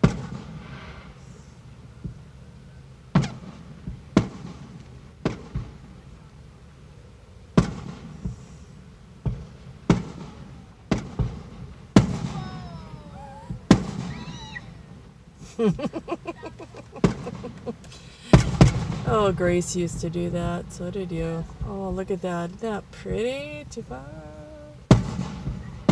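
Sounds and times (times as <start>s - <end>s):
fireworks booming: 0.0s - 2.4s, 3.1s - 6.9s, 7.5s - 25.9s.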